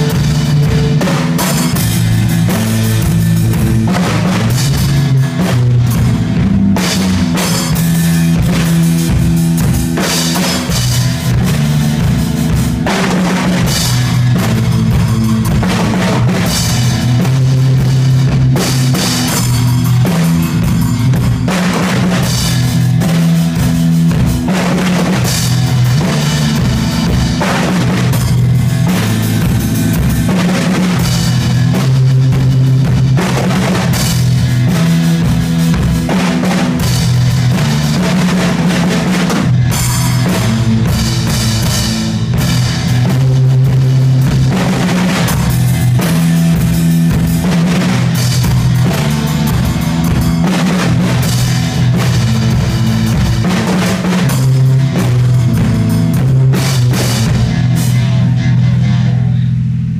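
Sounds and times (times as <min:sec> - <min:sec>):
drum kit: 0:00.0 - 0:59.9
electric bass line: 0:00.0 - 0:59.9
electric guitar: 0:00.0 - 0:59.9.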